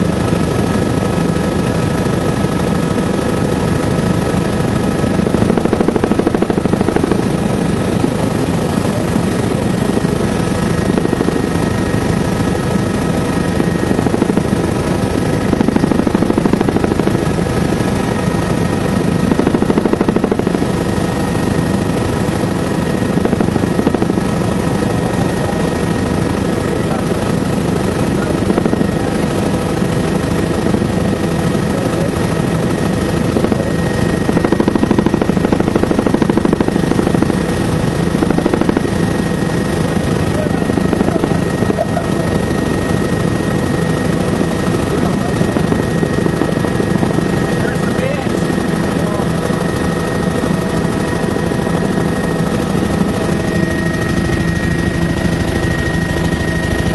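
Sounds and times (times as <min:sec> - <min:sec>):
helicopter engine and rotor roar: 0:00.0 - 0:56.9
steady high whine: 0:00.0 - 0:56.9.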